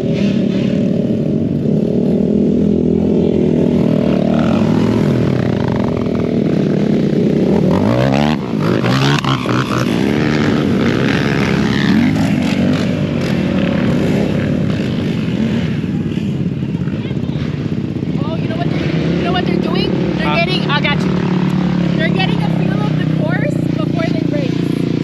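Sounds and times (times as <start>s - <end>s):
racing atv engines revving: 0.0s - 25.0s.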